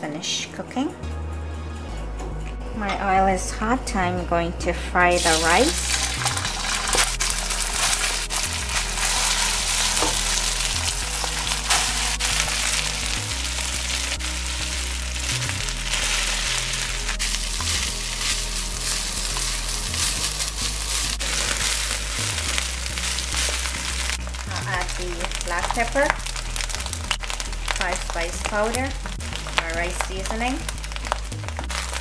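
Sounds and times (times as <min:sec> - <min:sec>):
rice sizzling in oil: 0:05.2 - 0:32.0.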